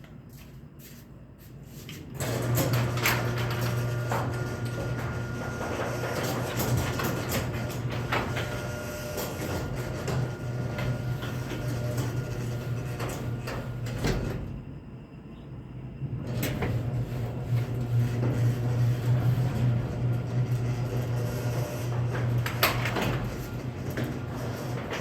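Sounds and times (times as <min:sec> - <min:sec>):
garage door opener motor hum: 0:02.1 - 0:14.8, 0:15.5 - 0:25.0
garage door rattling on track: 0:02.2 - 0:14.7, 0:16.0 - 0:25.0.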